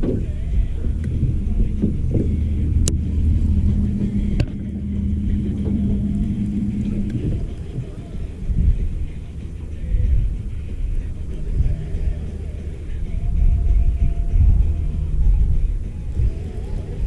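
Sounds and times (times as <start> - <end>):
faint hum: 0.0 - 17.0
steady low rumble: 0.0 - 17.0.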